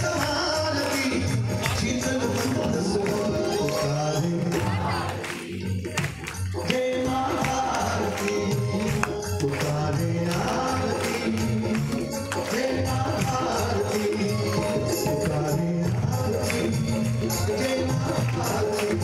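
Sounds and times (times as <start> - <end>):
devotional music over loudspeakers: 0.0 - 19.0
jingling hand percussion: 0.0 - 19.0.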